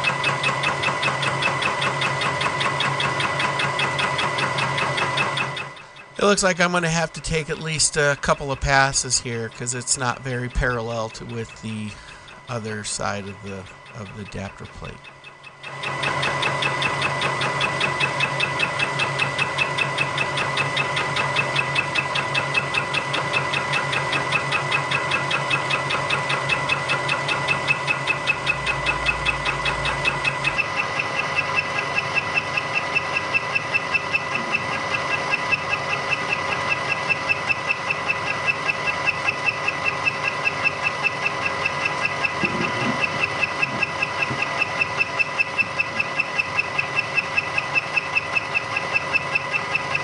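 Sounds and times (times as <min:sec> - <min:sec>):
fly cutter ticking on metal: 0:00.0 - 0:50.0
milling machine spindle whir: 0:00.0 - 0:50.0.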